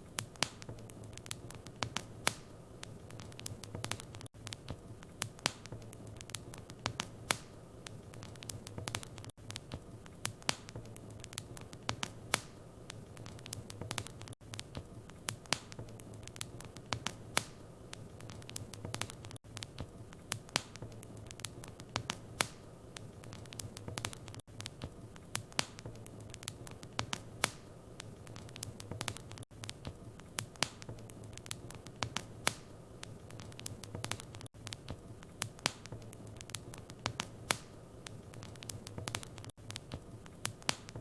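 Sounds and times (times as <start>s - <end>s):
fire popping and snapping: 0.0s - 41.0s
wood fire crackling: 0.0s - 41.0s.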